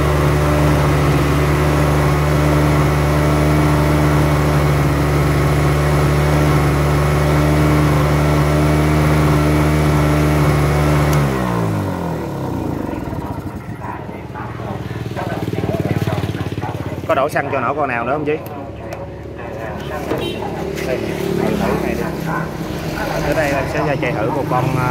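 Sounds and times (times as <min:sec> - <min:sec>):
generator engine running: 0:00.0 - 0:24.9.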